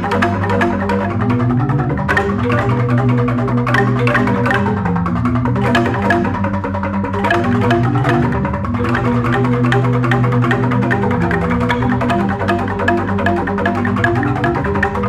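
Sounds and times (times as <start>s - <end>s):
bamboo gamelan playing: 0.0s - 15.0s.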